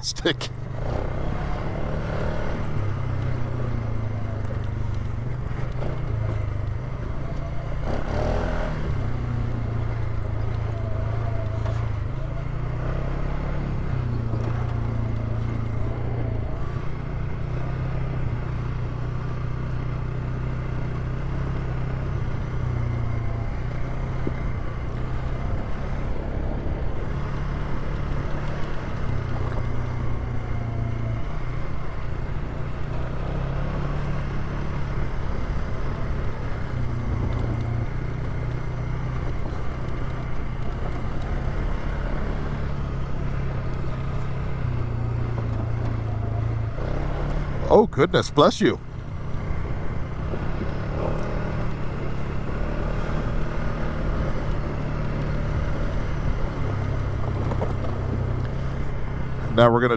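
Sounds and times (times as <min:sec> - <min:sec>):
quad bike engine revving: 0:00.0 - 0:48.1, 0:49.2 - 0:59.8.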